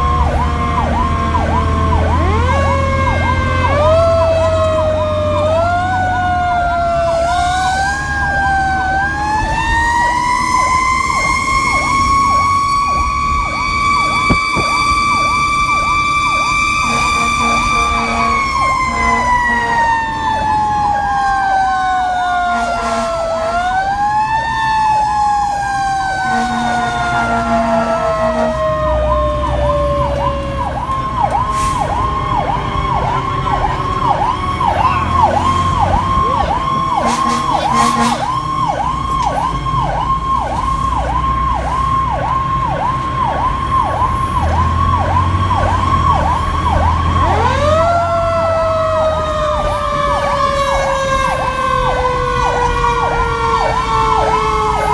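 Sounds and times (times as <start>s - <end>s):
fire engine siren: 0.0s - 54.9s
truck engine rumble: 0.0s - 54.9s.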